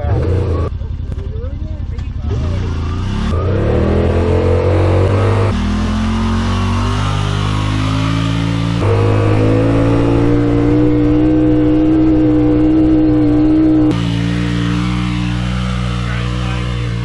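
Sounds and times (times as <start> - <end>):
engine revving under load: 0.0 - 0.7, 2.2 - 17.0
distant engine: 0.0 - 17.0.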